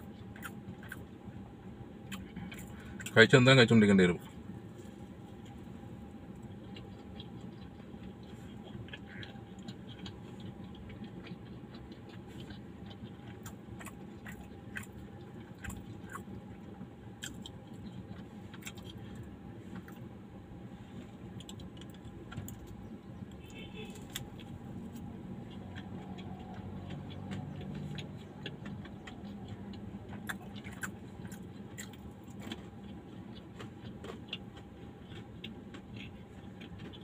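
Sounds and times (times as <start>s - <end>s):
person chewing crunchy food: 0.0s - 1.4s, 2.0s - 3.2s, 4.3s - 37.0s
low hum inside car: 0.0s - 37.0s.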